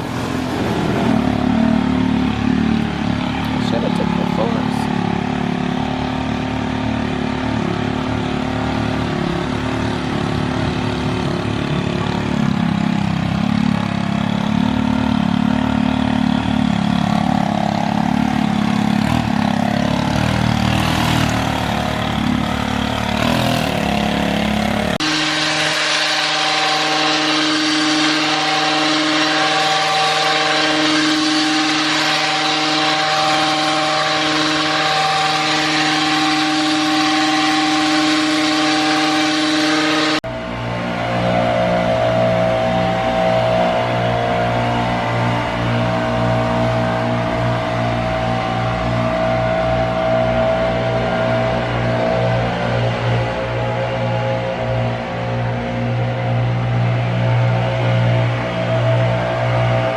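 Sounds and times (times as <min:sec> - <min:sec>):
high-pitched engine hum: 0:00.0 - 0:59.9
small petrol engines running: 0:00.0 - 0:59.9.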